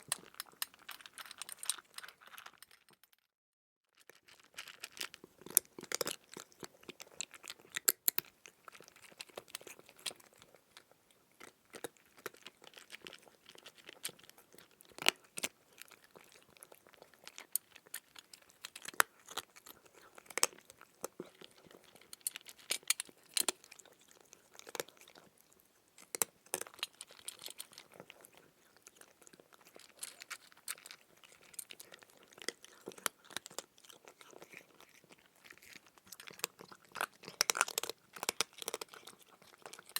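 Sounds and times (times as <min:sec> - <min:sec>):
crunchy chewing of food: 0:00.0 - 0:03.0, 0:03.9 - 0:39.9.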